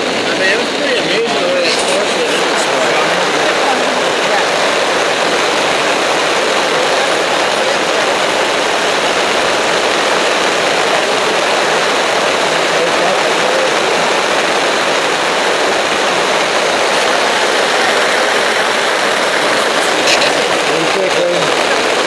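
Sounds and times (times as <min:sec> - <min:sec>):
heavy rain on a tarp: 0:00.0 - 0:22.0.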